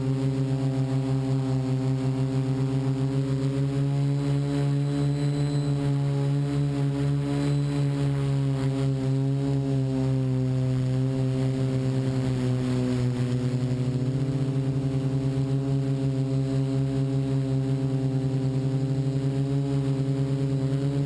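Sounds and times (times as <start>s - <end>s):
drone motors humming: 0.0s - 21.0s.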